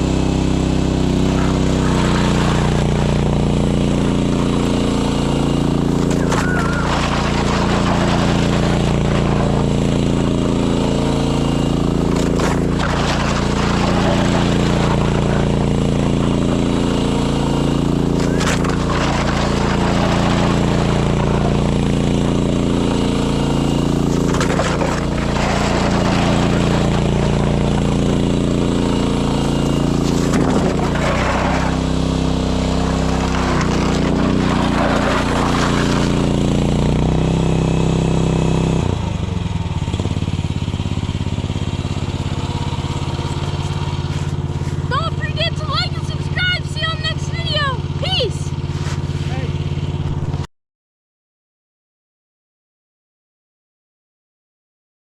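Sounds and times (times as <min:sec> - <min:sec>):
small gasoline engine running: 0:00.0 - 0:50.5.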